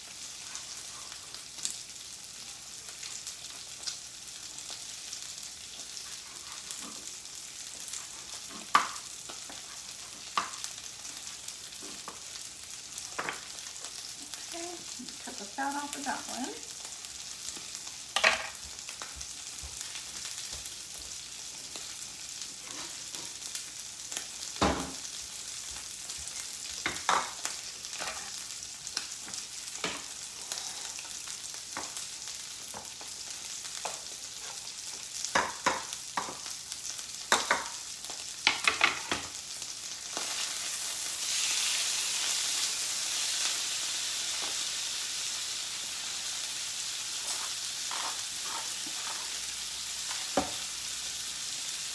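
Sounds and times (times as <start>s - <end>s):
steaks sizzling in a frying pan: 0.0s - 51.9s.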